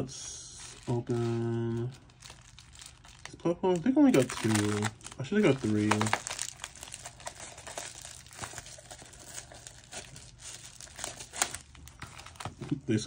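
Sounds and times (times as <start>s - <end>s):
bubble wrap crinkling and tearing: 0.0s - 12.7s.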